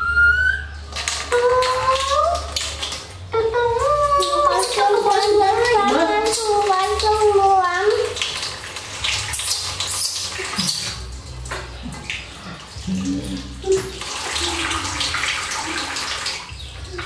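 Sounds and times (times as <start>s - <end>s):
tap water splashing into metal basin: 0.9s - 3.3s, 4.1s - 17.0s.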